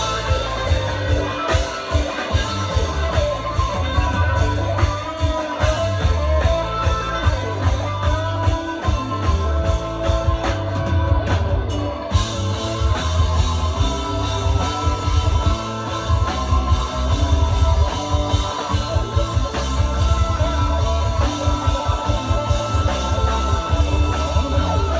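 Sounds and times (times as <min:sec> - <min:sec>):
drum kit beat: 0:00.0 - 0:24.9
electric guitar: 0:00.0 - 0:24.9
rock band playing live: 0:00.0 - 0:24.9.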